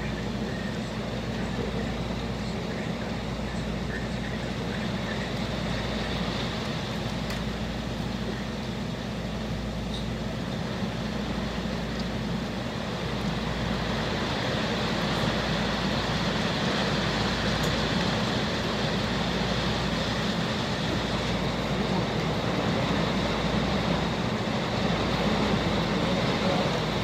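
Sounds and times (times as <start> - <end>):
heavy rain: 0.0 - 27.0
wind: 0.0 - 27.0.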